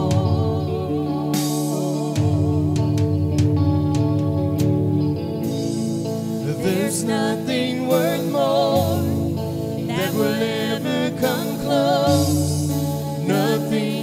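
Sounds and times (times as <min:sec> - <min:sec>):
person singing with vibrato: 0:00.0 - 0:03.9, 0:06.4 - 0:14.0
held instrumental chords: 0:00.0 - 0:14.0.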